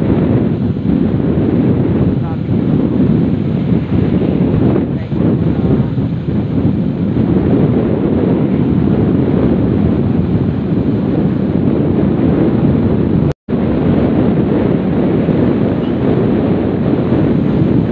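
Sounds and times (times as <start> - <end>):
wind rushing on microphone: 0.0 - 17.9.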